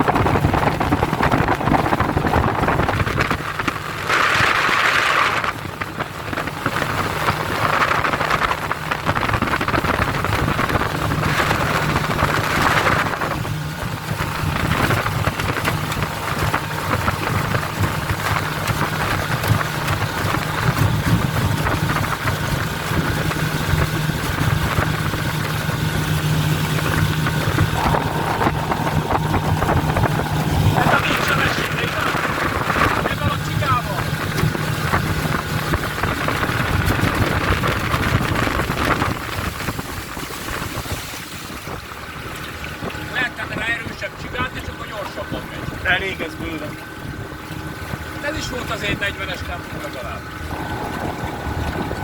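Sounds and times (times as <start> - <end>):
outboard motor drone: 0.0 - 52.0
rushing water: 0.0 - 52.0
wind: 0.0 - 52.0.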